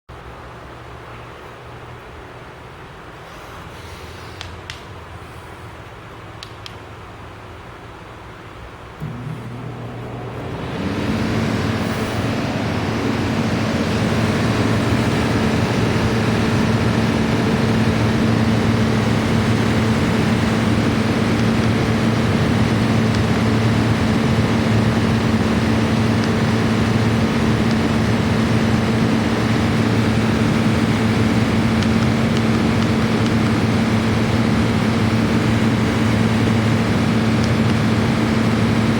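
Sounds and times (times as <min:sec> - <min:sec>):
air conditioner hum and fan: 0:00.1 - 0:38.9.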